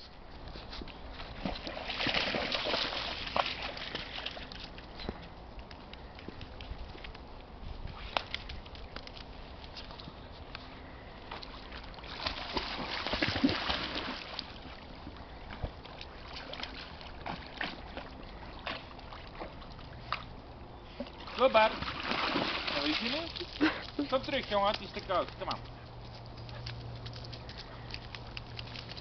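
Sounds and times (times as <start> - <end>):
dogs splashing through water: 1.0 - 29.0.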